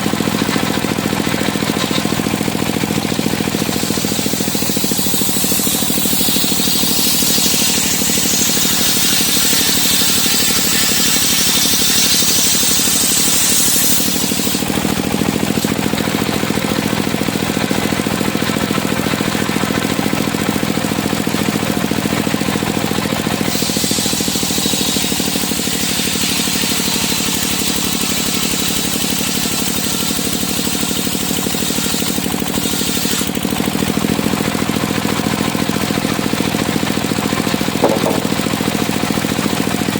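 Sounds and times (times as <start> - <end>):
saw blade cutting timber: 0.0 - 39.9
sawmill engine running: 0.0 - 39.9.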